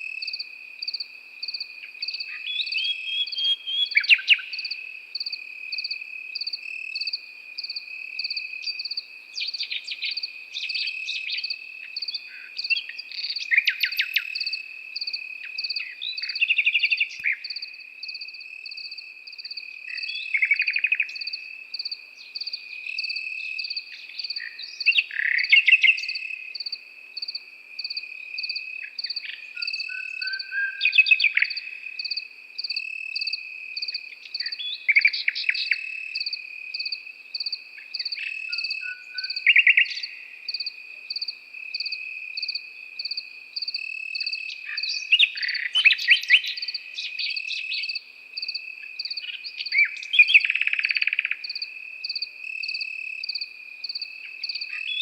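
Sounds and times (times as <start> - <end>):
crickets trilling: 0.0 - 55.0
nightingale singing: 0.0 - 55.0
pulsing cricket chirp: 0.0 - 55.0.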